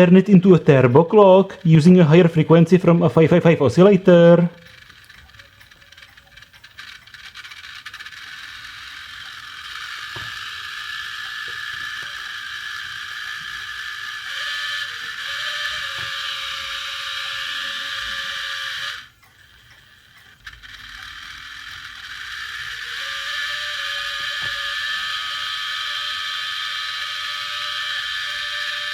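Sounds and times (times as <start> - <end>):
clock motor ticking and whirring: 0.0 - 28.9.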